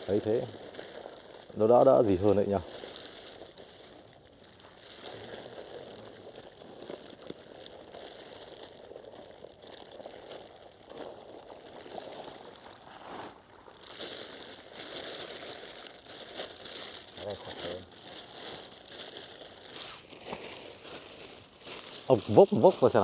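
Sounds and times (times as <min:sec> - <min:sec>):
small irregular ticks: 0:00.0 - 0:23.0.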